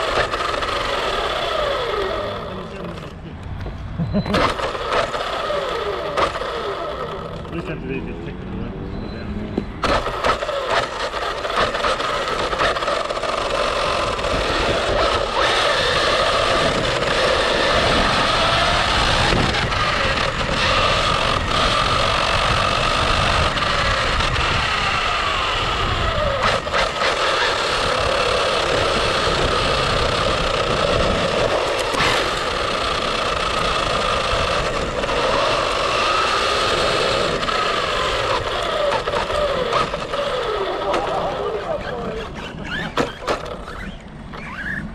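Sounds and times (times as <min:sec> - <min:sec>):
rc car motors whining: 0:00.0 - 0:44.9.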